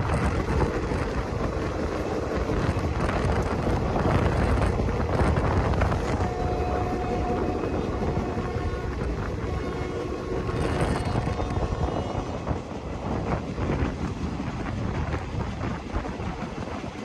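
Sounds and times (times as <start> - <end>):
train wheels rumbling on track: 0.0 - 17.0
wind noise on microphone: 0.0 - 17.0.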